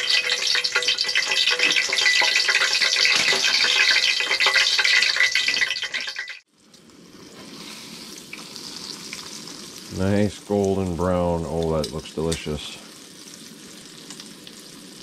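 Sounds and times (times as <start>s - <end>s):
hot oil crackling and spattering: 0.0s - 15.0s
oil sizzling: 0.0s - 15.0s.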